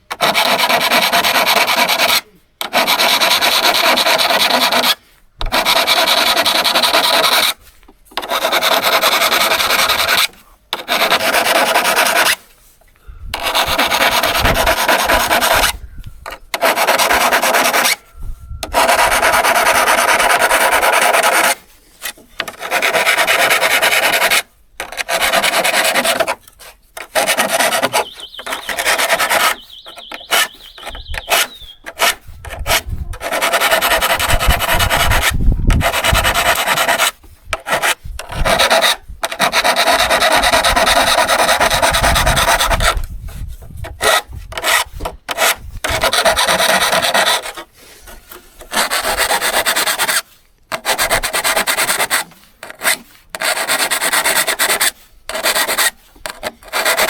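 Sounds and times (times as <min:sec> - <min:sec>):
abrasive scraping on saw blade: 0:00.1 - 0:57.0.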